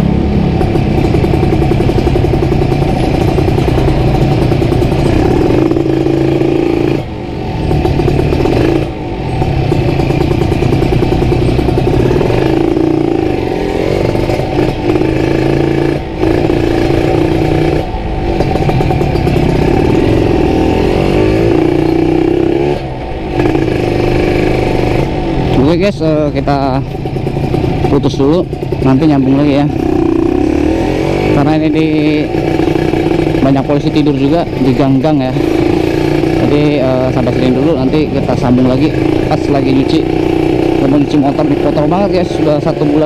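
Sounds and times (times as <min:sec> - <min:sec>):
two-stroke motorcycle engine: 0:00.0 - 0:43.0.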